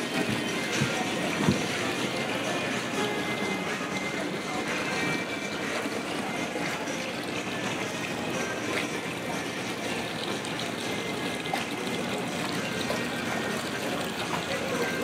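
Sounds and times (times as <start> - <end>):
running water trickling: 0.0 - 15.0.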